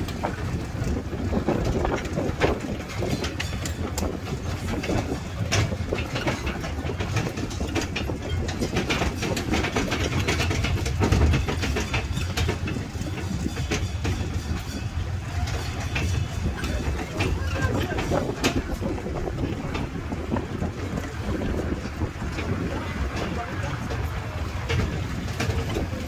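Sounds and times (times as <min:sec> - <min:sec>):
low motor rumble: 0:00.0 - 0:26.0
train carriages rattling: 0:00.0 - 0:26.0.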